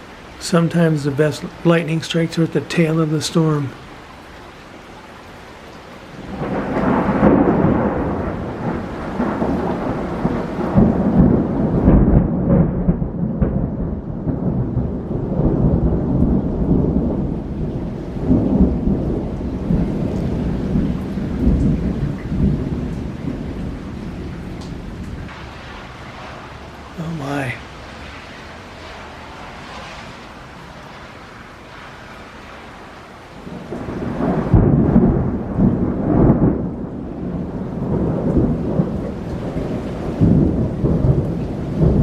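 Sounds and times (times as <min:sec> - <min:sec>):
heavy rain: 0:00.0 - 0:42.0
thunder rumbling: 0:06.1 - 0:42.0.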